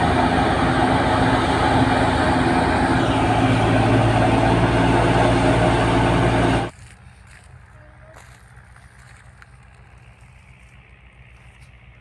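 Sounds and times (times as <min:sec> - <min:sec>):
thresher and tractor engine running: 0:00.0 - 0:12.0.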